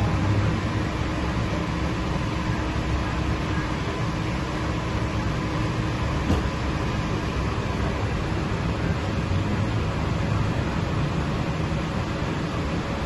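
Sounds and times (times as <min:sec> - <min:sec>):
idling cars rumble: 0:00.0 - 0:13.0.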